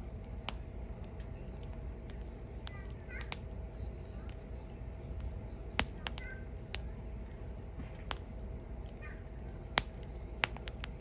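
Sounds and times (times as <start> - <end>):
firewood crackling and popping: 0.0 - 11.0
low rumble of fire: 0.0 - 11.0.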